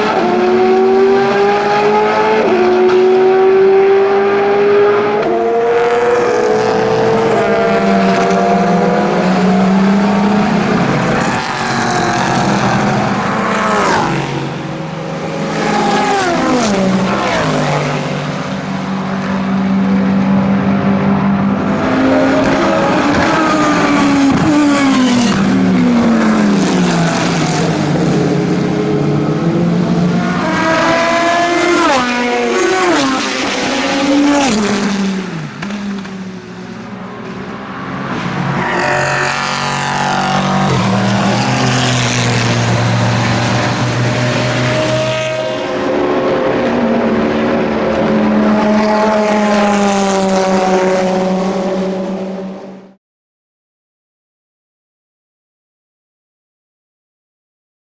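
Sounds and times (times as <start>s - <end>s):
racing car engines at full throttle: 0.0s - 53.0s.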